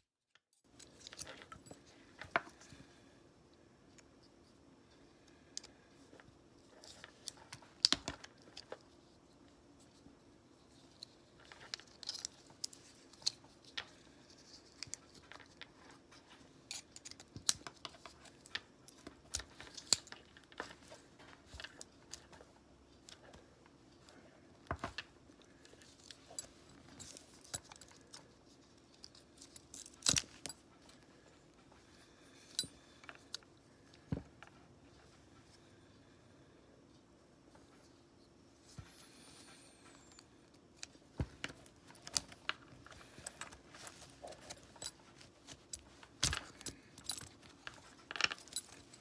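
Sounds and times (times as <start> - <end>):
faint steady hum: 0.6 - 49.0.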